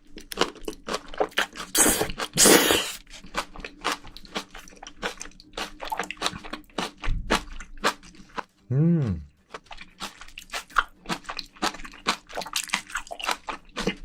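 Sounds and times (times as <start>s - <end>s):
crunchy chewing: 0.0s - 8.5s, 9.5s - 14.0s.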